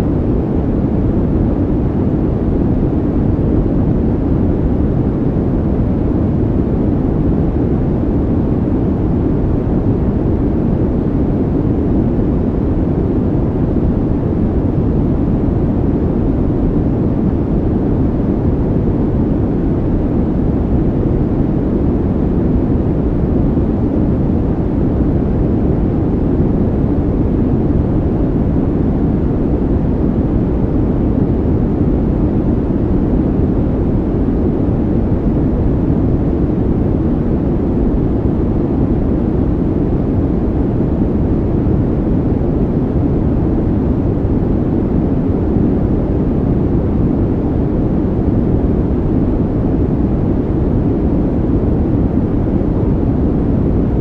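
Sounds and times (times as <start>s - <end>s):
steady deep brown noise: 0.0s - 54.0s.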